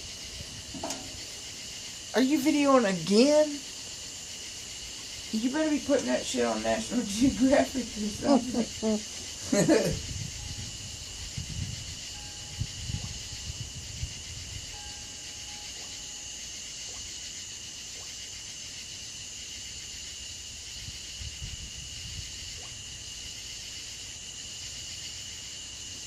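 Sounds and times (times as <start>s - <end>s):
insect chorus trilling: 0.0s - 26.0s.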